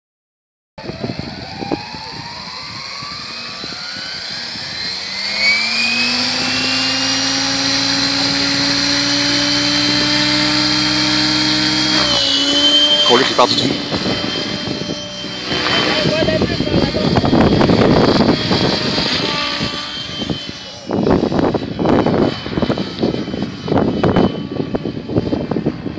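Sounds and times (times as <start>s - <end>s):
helicopter motor whine rising: 0.8s - 25.9s
rotor hum: 0.8s - 25.9s.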